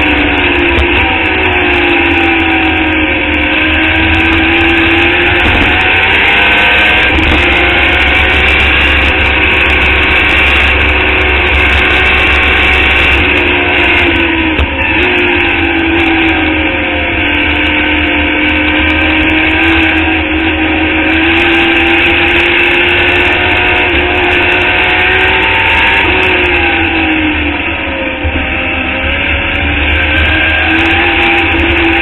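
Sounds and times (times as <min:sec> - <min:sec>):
race car engine running hard: 0:00.0 - 0:32.0.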